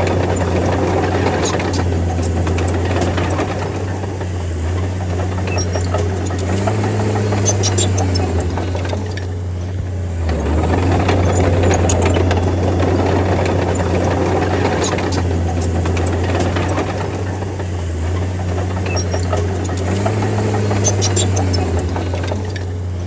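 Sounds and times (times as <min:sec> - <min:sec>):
bulldozer diesel engine running: 0:00.0 - 0:23.0
metallic clanks and rattles: 0:00.0 - 0:23.0.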